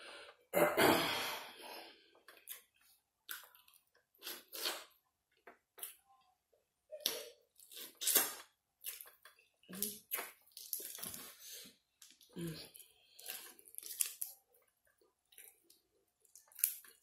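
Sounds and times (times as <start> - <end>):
close chewing and mouth sounds: 2.0 - 6.2, 7.0 - 17.0.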